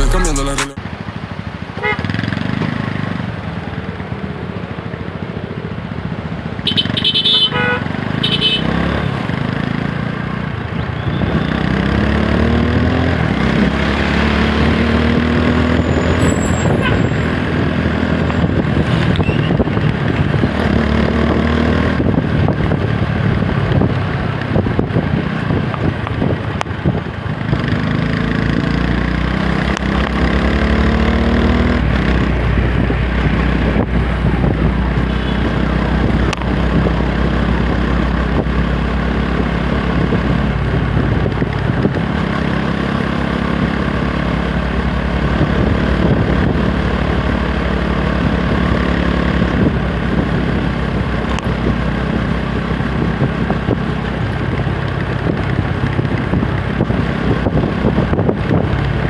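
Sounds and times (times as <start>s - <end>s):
motorcycle engine accelerating: 7.8s - 59.0s.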